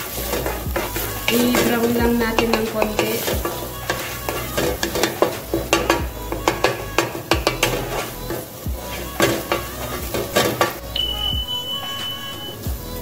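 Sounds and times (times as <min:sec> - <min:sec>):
wooden spoon scraping a pan: 0:00.0 - 0:12.6
garlic sizzling in oil: 0:00.0 - 0:13.0.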